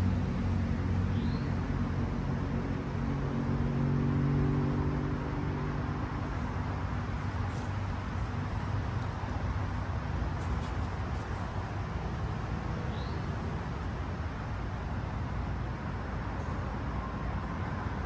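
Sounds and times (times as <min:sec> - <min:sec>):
road traffic noise: 0:00.0 - 0:18.0
vehicle engine hum: 0:00.0 - 0:18.0.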